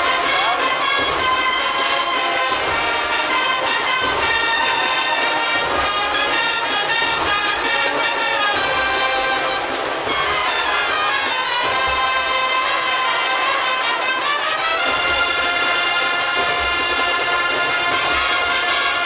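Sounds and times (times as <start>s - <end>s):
brass melody: 0.0s - 19.0s
steady drum beat: 0.0s - 19.0s.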